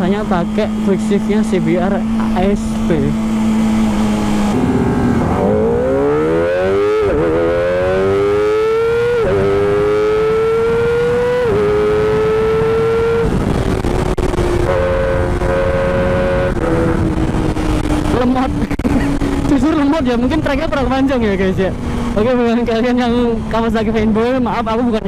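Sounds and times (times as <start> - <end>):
motorcycle engine accelerating: 0.0 - 25.0
wind noise: 0.0 - 25.0.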